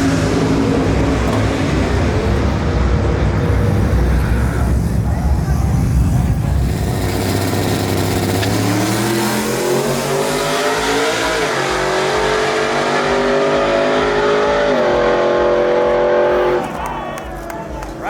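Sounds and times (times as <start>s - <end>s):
vehicle engine accelerating: 0.0s - 16.8s.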